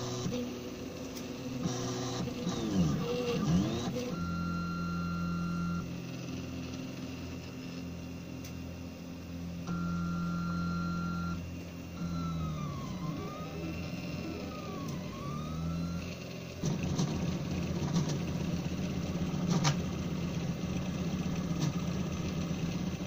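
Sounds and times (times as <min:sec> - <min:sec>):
stepper motors whining: 0:00.0 - 0:08.6, 0:09.6 - 0:23.0.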